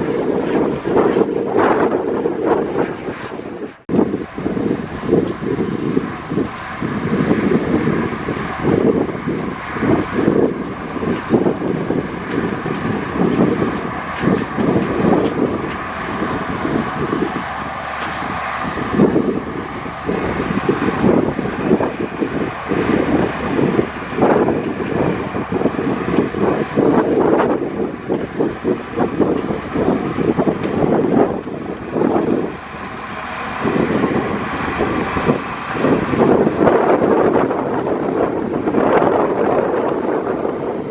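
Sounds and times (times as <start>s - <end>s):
heavy diesel machinery running: 0.0s - 2.8s, 3.8s - 40.9s.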